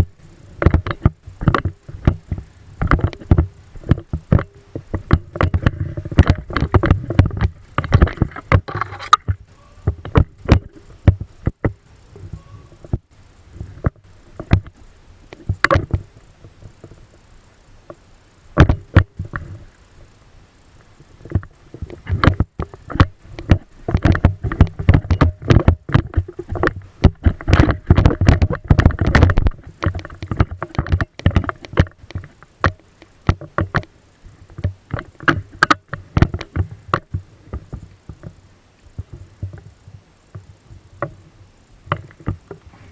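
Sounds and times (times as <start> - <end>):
sharp irregular clicks and knocks: 0.0 - 17.3, 17.9 - 20.1, 20.8 - 42.7.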